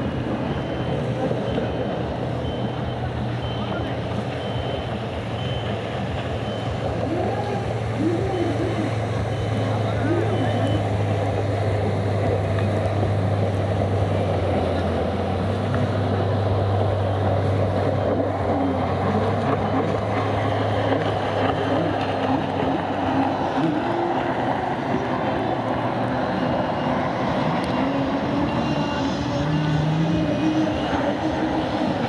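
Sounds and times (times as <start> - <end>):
jet ski engines revving: 0.0 - 32.0.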